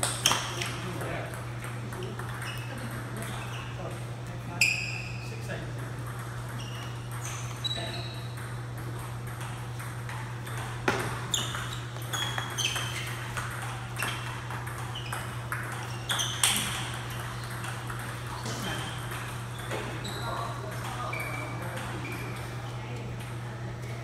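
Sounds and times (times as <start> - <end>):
table tennis balls clicking: 0.0 - 4.1, 5.7 - 23.4.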